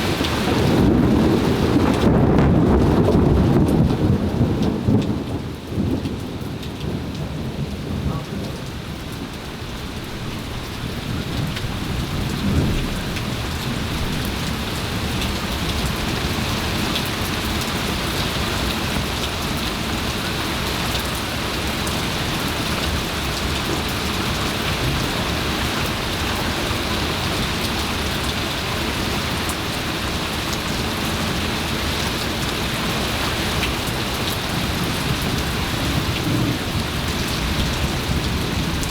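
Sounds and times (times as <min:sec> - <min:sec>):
thunder rumbling: 0:00.0 - 0:20.7, 0:21.4 - 0:38.9
heavy rain pouring: 0:00.0 - 0:38.9.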